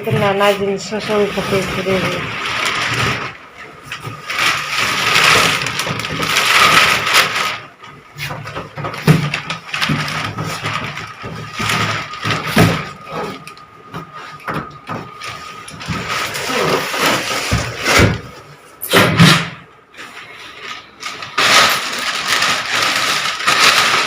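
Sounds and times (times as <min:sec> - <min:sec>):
packaging crackling and rustling: 0:00.0 - 0:18.6, 0:20.0 - 0:24.0.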